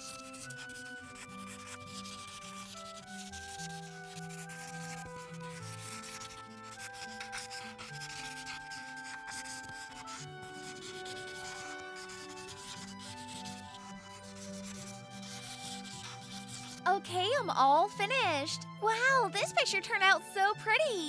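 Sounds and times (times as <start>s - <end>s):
marker rubbing on paper: 0.0s - 17.4s
soft background music: 0.0s - 21.0s.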